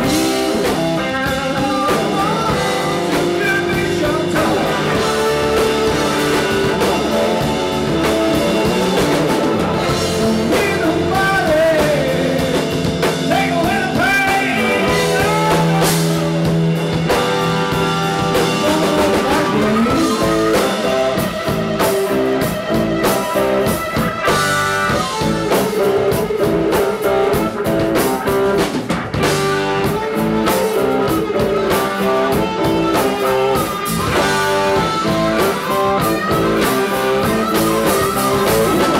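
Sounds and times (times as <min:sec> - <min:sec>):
electric guitar sliding notes: 0:00.0 - 0:38.9
live blues-rock band: 0:00.0 - 0:38.9.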